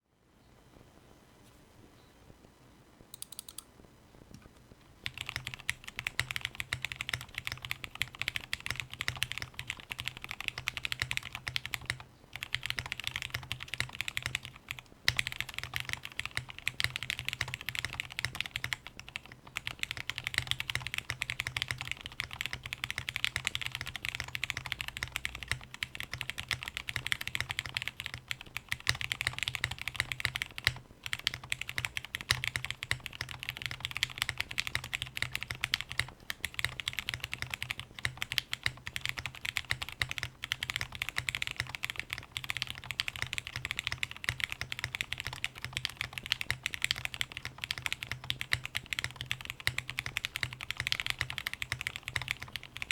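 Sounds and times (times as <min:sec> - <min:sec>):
mechanical keyboard typing: 0:03.1 - 0:03.7, 0:05.0 - 0:52.9.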